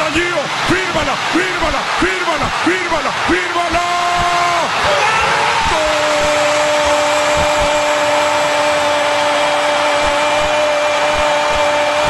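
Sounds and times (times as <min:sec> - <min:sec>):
loud stadium crowd: 0:00.0 - 0:12.0.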